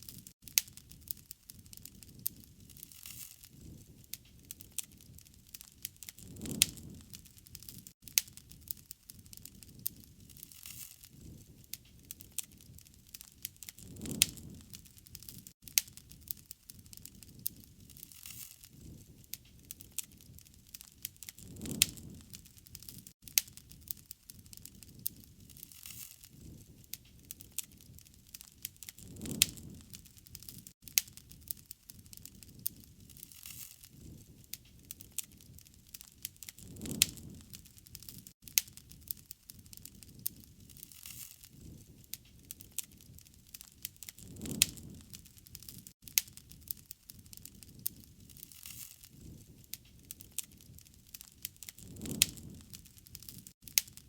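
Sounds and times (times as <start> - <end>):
campfire crackles and pops: 0.0 - 54.0
low rumble of flames: 0.0 - 54.0.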